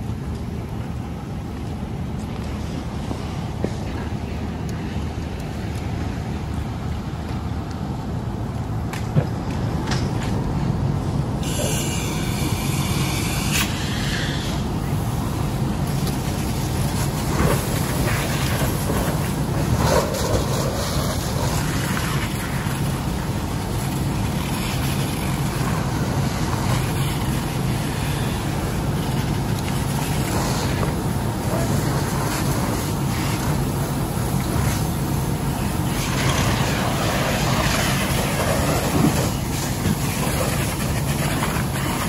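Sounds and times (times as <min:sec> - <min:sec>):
fire engine diesel engine running: 0:00.0 - 0:42.0.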